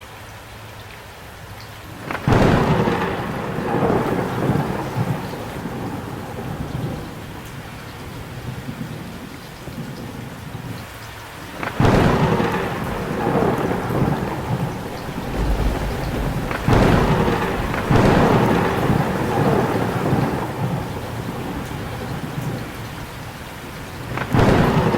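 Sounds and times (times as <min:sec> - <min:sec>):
heavy rain: 0:00.0 - 0:24.9
thunderclaps with long rumble: 0:01.9 - 0:24.9.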